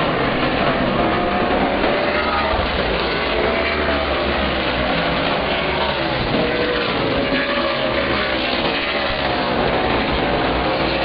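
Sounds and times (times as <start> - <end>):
race car engines: 0.0 - 11.0.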